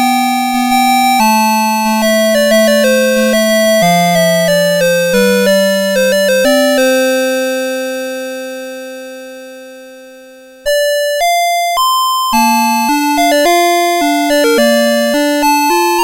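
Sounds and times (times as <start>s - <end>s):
electronic alarm clock melody: 0.0s - 8.8s, 10.6s - 16.0s.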